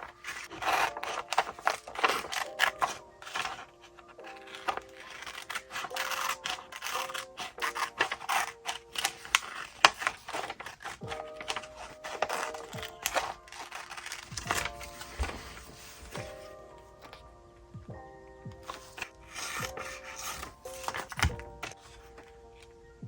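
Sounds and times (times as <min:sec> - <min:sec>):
paper and craft tools scraping: 0:00.0 - 0:17.2, 0:18.6 - 0:22.3
soft background music: 0:00.0 - 0:23.0.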